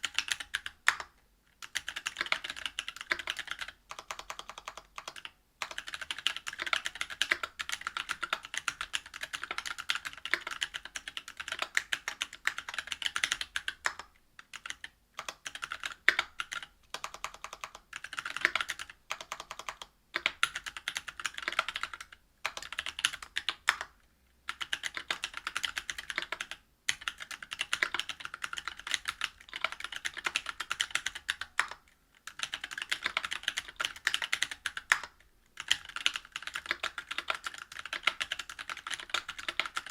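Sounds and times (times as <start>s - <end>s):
fast typing on mechanical keyboard: 0.0s - 23.9s, 24.5s - 39.9s.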